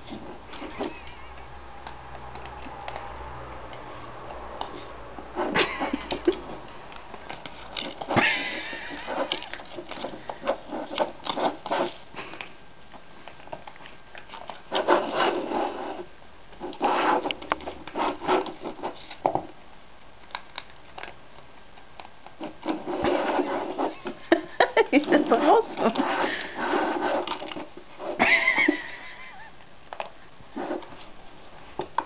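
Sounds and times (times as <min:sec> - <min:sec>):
cats eating from plastic bowl: 0:00.0 - 0:28.2, 0:29.8 - 0:32.0.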